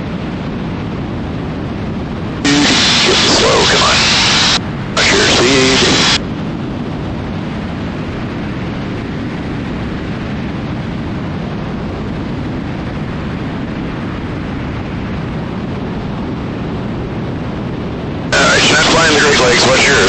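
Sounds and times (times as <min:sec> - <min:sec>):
airplane engine drone in flight: 0:00.0 - 0:20.0.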